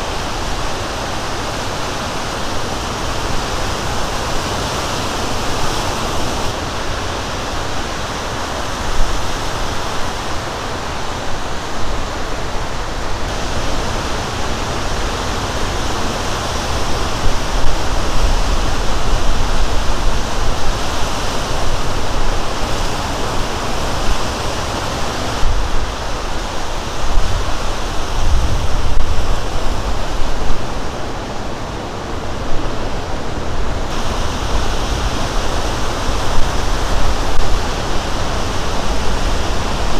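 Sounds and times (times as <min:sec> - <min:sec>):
surf waves crashing on shore: 0:00.0 - 0:39.9.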